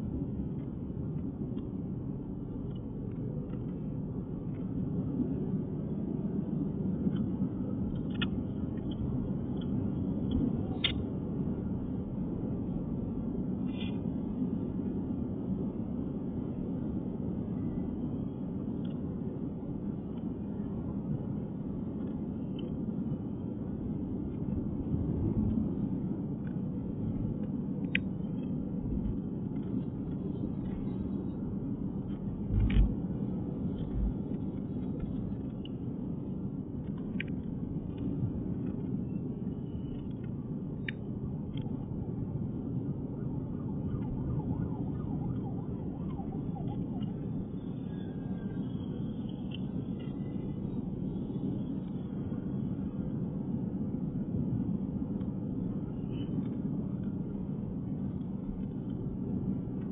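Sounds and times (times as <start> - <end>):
car driving on highway: 0.0 - 59.9.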